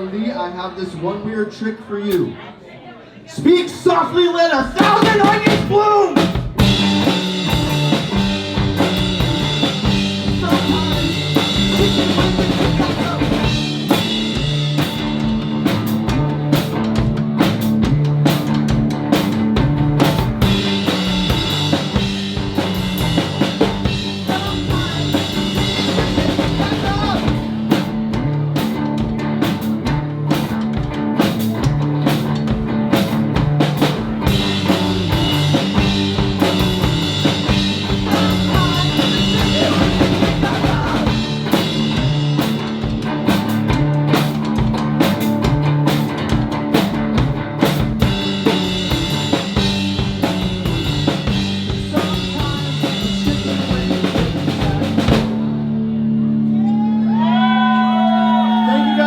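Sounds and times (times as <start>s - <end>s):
drum kit beat: 4.6s - 55.8s
live band instrumental: 4.6s - 59.0s.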